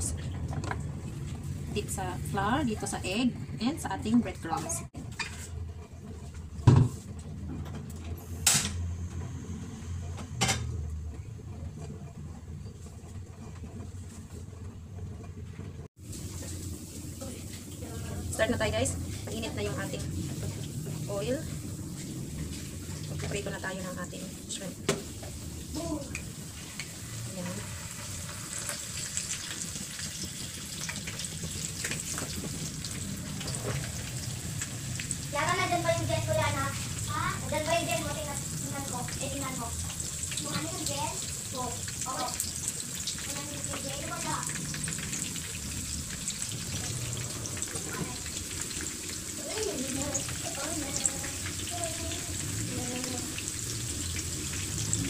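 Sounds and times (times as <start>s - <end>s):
shrimp frying in hot oil: 0.0s - 55.0s.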